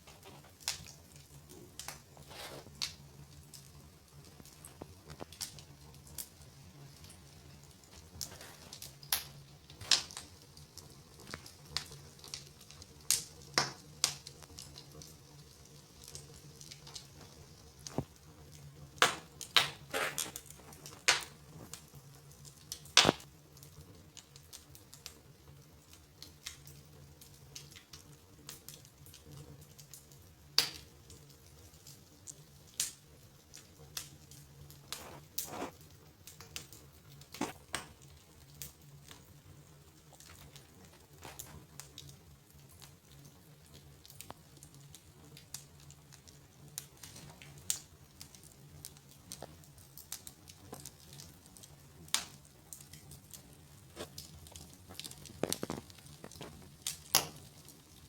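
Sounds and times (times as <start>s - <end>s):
fire popping: 0.0s - 58.0s
wood fire crackling: 0.0s - 58.0s.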